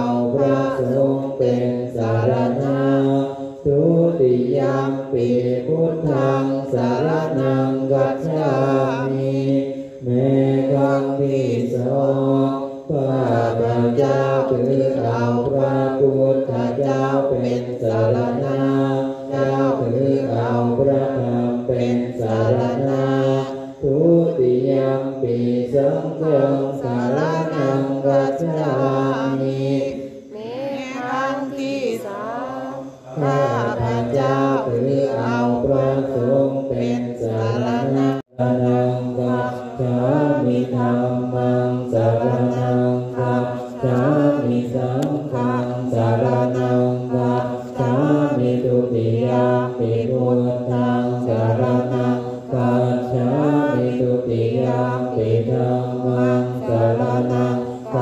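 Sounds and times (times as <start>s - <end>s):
monks chanting in unison: 0.0s - 58.0s.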